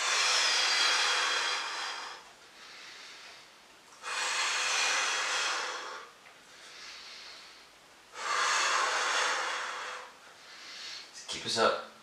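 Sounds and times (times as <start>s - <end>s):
man breathing hard: 0.0s - 11.2s.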